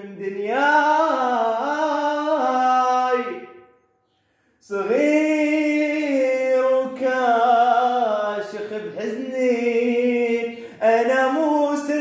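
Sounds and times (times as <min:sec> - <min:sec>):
man singing unaccompanied: 0:00.0 - 0:03.6, 0:04.6 - 0:12.0.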